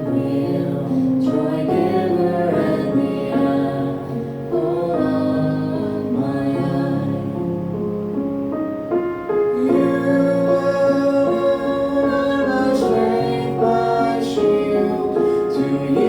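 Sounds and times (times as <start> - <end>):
voices singing church music: 0.0 - 8.1, 9.3 - 16.0
keyboard accompaniment: 0.0 - 16.0.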